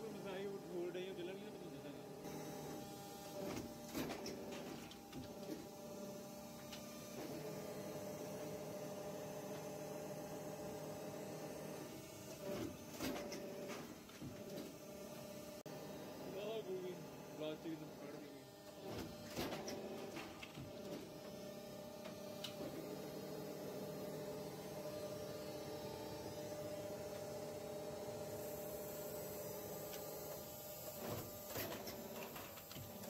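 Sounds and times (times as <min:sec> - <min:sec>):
injection molding machine humming: 0:00.0 - 0:33.0.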